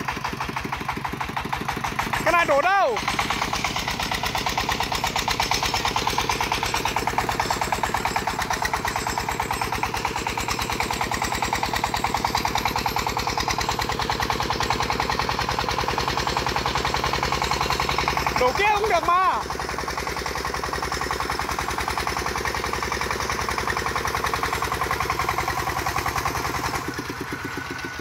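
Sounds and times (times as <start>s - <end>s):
diesel engine pulsing: 0.0s - 28.0s.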